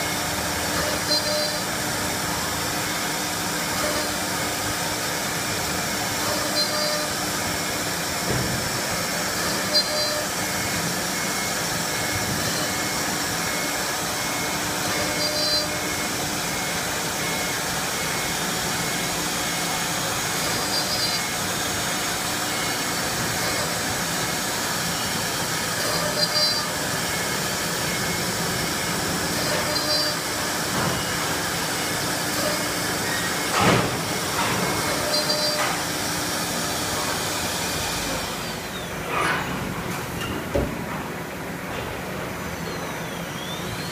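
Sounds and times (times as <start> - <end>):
wood router spindle whine and hiss: 0.0 - 39.0.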